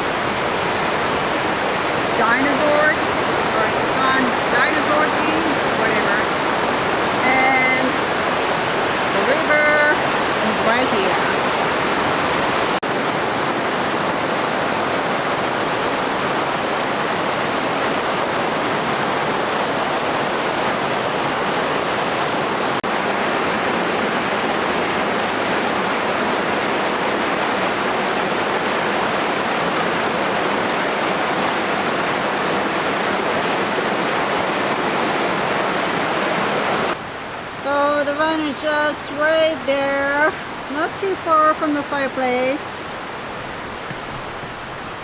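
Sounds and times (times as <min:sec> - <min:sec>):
river rushing: 0:00.0 - 0:45.0.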